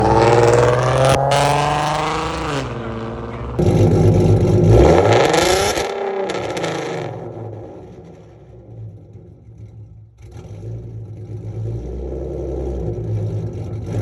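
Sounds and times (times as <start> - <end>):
car exhaust revving: 0.0 - 14.0.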